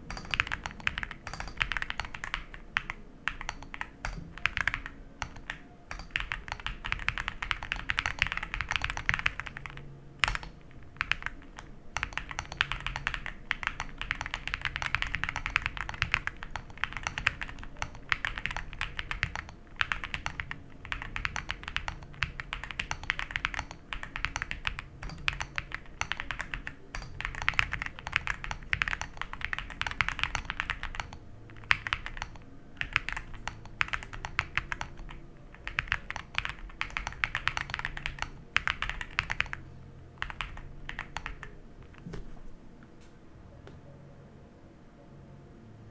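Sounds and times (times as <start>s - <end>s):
fast mechanical keyboard typing: 0.0s - 39.6s, 40.2s - 42.0s.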